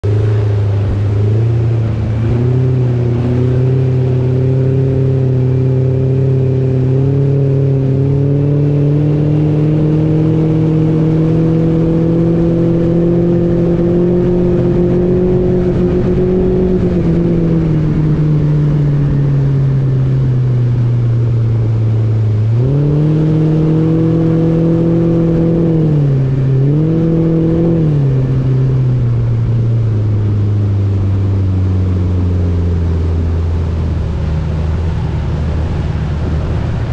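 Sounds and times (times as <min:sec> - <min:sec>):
outboard motor running: 0:00.0 - 0:36.9.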